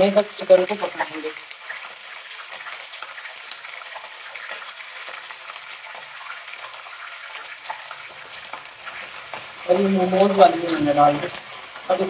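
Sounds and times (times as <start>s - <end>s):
chicken and onions sizzling in oil: 0.0s - 12.0s.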